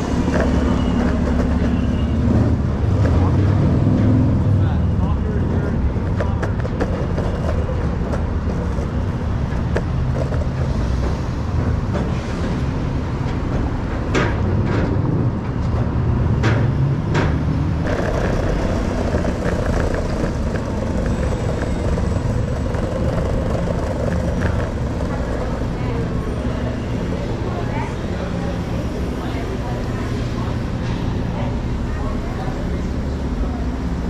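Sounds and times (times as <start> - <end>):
motor vehicle rumbling: 0.0 - 34.0.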